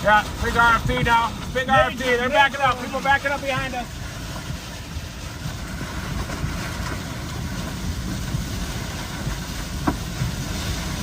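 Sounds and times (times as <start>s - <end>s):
gusty wind: 0.0s - 11.0s
vehicle rumble: 0.0s - 11.0s.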